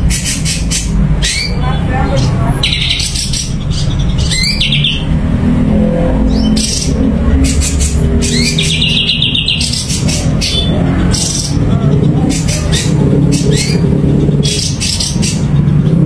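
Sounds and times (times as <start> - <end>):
bird singing trills: 0.0 - 16.0
low rumble: 0.8 - 16.0.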